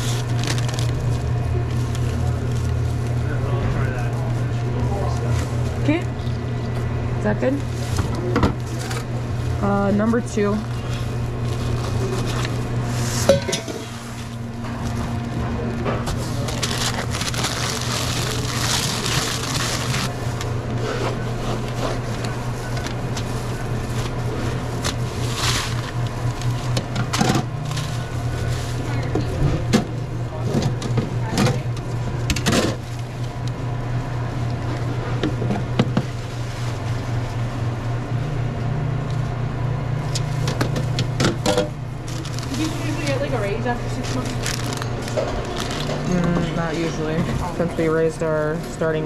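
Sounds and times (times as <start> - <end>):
low machine hum: 0.0 - 49.0.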